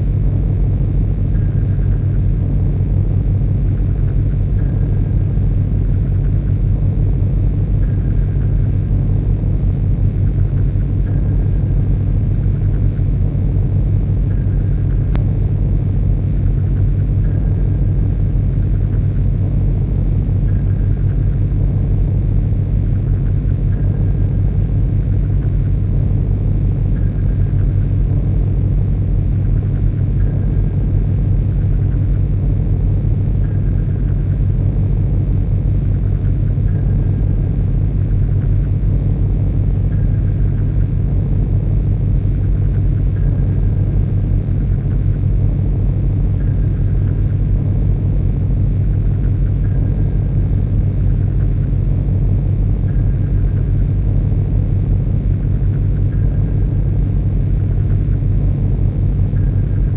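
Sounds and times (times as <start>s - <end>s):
low rumbling noise drone: 0.0s - 59.9s.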